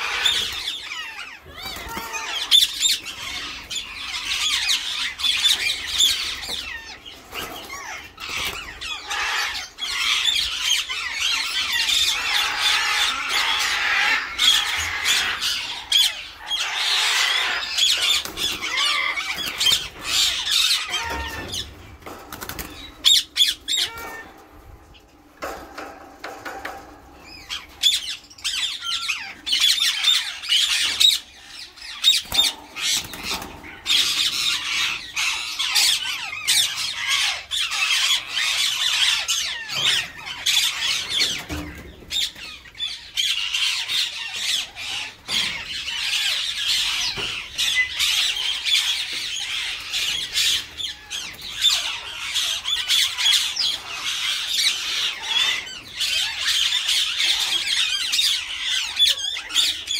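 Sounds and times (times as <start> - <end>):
parakeets squawking: 0.0 - 59.9.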